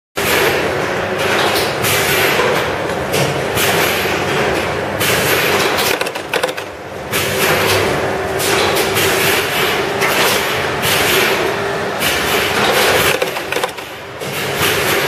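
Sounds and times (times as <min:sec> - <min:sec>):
machine humming: 0:00.2 - 0:15.0.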